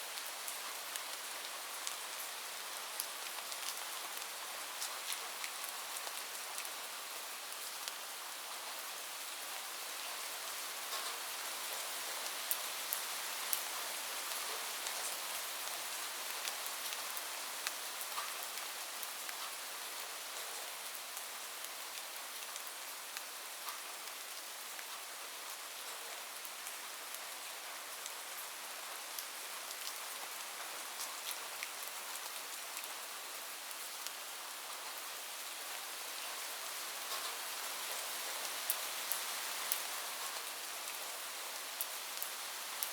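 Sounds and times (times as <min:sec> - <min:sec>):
rain on a roof: 0:00.0 - 0:42.9.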